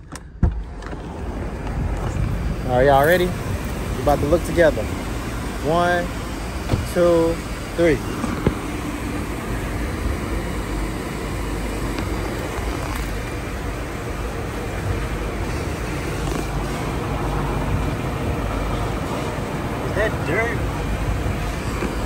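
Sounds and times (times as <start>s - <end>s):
low rumble of vehicle noise: 0.0s - 22.0s.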